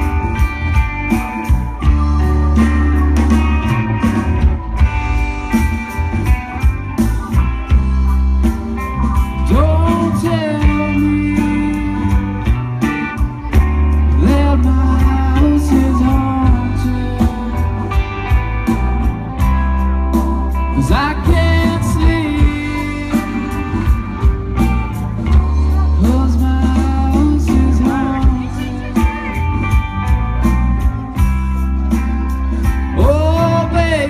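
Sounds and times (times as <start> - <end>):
drums: 0.0 - 34.0
electric guitars: 0.0 - 34.0
heavy bass line: 0.0 - 34.0
keyboard: 0.0 - 34.0.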